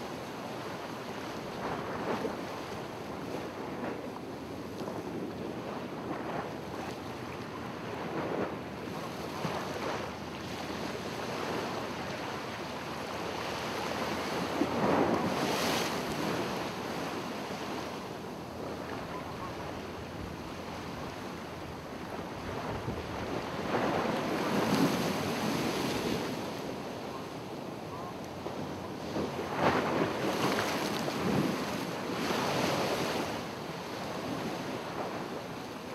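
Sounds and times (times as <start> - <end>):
ocean surf washing: 0.0 - 35.9
wind buffeting microphone: 1.2 - 35.7.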